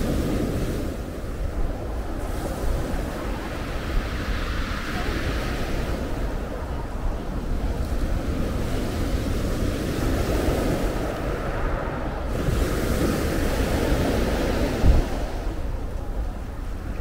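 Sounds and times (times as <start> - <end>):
waves breaking on pebble shore: 0.0 - 15.8
wind rumbling on microphone: 0.0 - 17.0.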